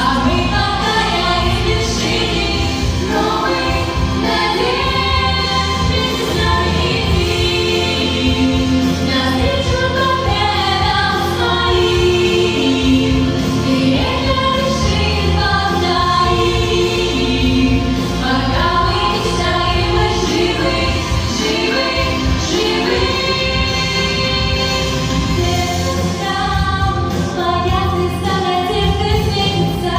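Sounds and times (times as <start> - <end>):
group of voices singing: 0.0 - 29.9
musical backing track: 0.0 - 29.9.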